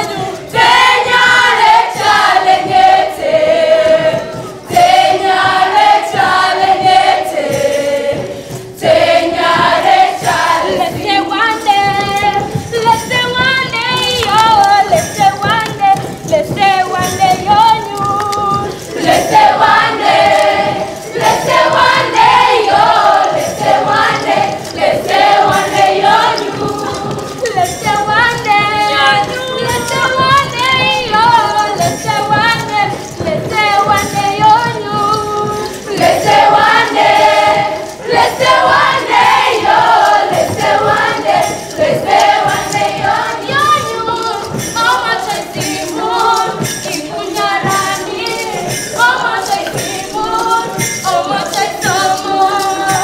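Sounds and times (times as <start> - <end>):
group singing in chorus: 0.0 - 53.0
light percussive beat: 0.0 - 53.0.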